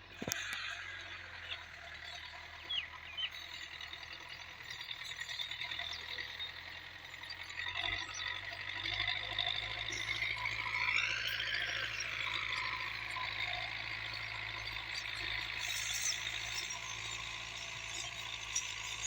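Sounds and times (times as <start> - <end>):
tractor diesel engine humming: 0.0 - 19.0.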